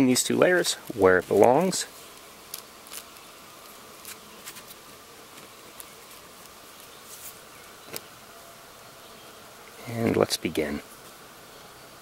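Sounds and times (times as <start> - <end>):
flying insect buzzing: 0.0 - 12.0.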